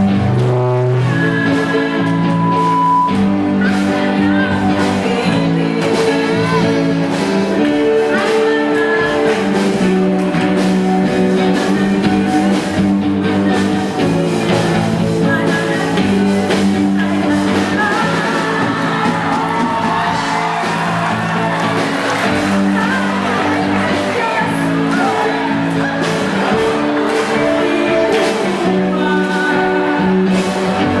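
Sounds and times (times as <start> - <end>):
drums beating: 0.0 - 31.0
live band music: 0.0 - 31.0
person singing: 0.0 - 31.0.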